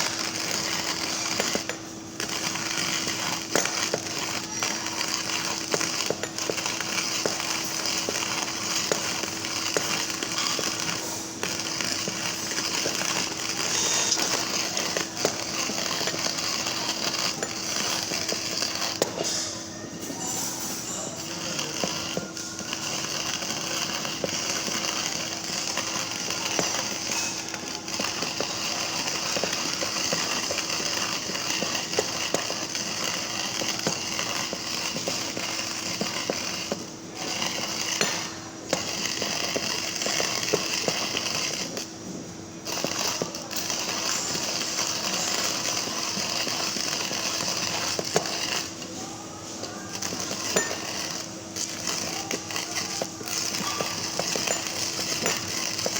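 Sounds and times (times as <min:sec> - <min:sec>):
hand coffee grinder crunching beans: 0:00.0 - 0:55.9.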